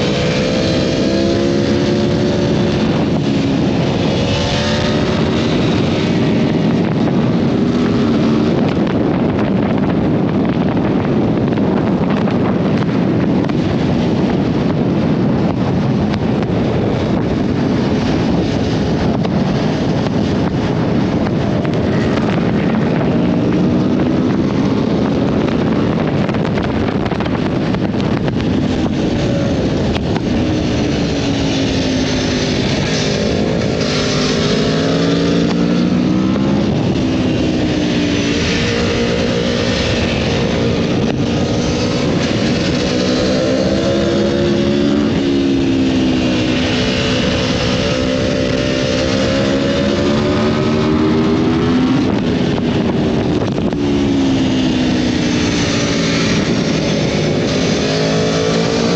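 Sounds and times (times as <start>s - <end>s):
motorcycle engine revving: 0.0s - 58.9s
wind on microphone: 0.0s - 58.9s.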